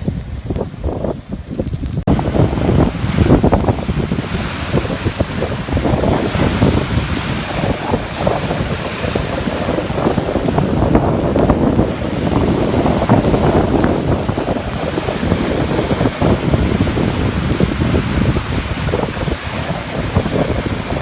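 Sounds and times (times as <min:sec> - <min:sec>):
wind buffeting microphone: 0:00.0 - 0:21.0
sea waves breaking: 0:01.3 - 0:21.0.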